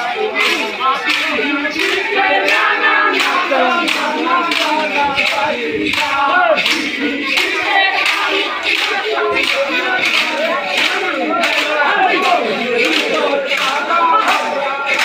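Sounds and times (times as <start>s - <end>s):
men chanting and calling out: 0.0s - 15.0s
steady beat of sharp strikes: 0.0s - 15.0s.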